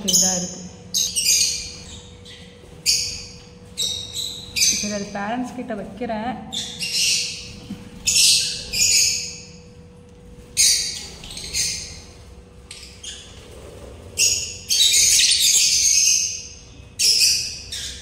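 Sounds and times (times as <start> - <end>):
cage birds squawking: 0.0 - 5.2, 6.4 - 18.0.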